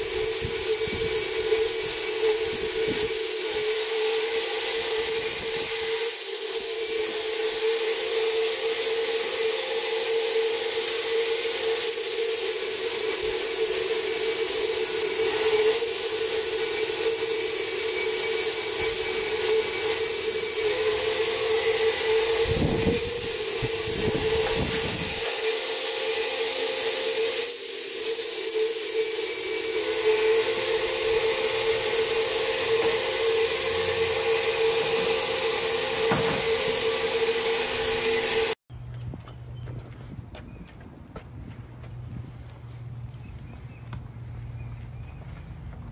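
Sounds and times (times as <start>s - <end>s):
paint spray gun hissing: 0.0s - 38.6s.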